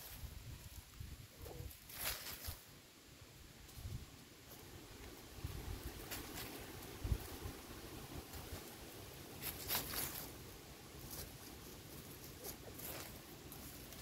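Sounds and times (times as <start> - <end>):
chickens rustling grass: 0.0 - 14.0.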